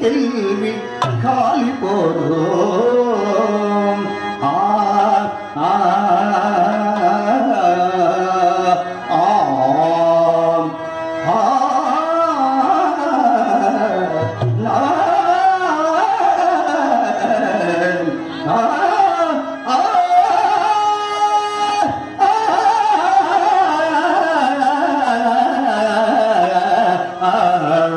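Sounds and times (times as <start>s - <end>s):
man singing into a microphone: 0.0s - 27.9s
musical accompaniment: 0.0s - 27.9s.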